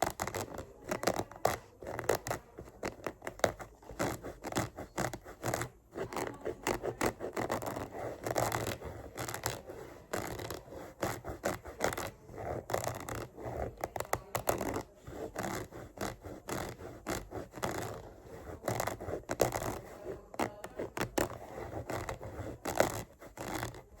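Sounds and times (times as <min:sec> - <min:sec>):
scratching and scraping on book: 0:00.0 - 0:24.0.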